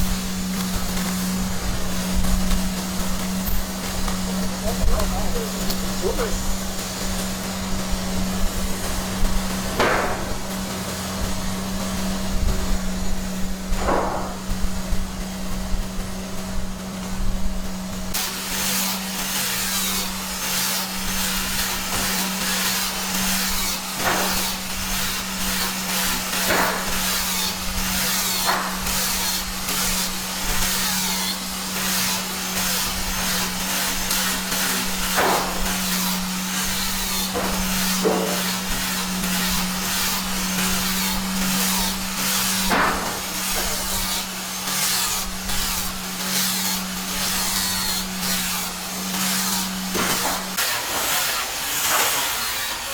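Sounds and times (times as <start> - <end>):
rasping on wood: 0.0 - 10.7, 18.1 - 52.9
power tool motor hum: 0.0 - 52.9.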